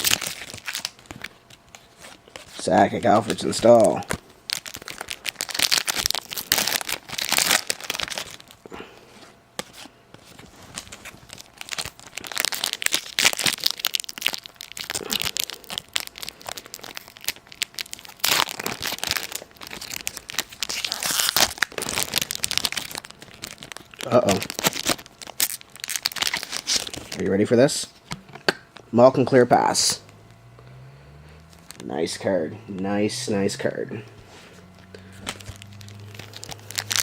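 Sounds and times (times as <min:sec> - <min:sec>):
wrappers crinkling and tearing: 0:00.0 - 0:08.8, 0:09.6 - 0:28.0, 0:28.7 - 0:37.0.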